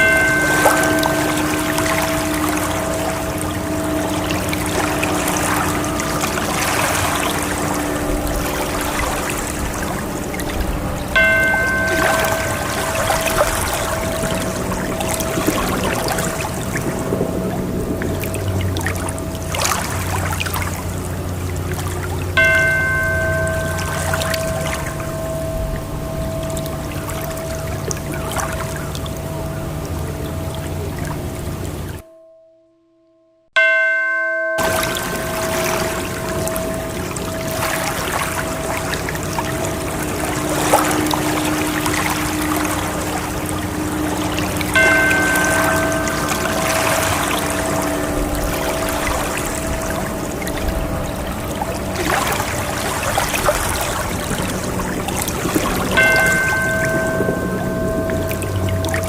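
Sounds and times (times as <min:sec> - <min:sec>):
water trickling: 0:00.0 - 0:32.0, 0:33.6 - 0:59.0
low steady drone: 0:00.0 - 0:32.3, 0:34.5 - 0:59.0
sustained ringing tone: 0:00.0 - 0:59.0.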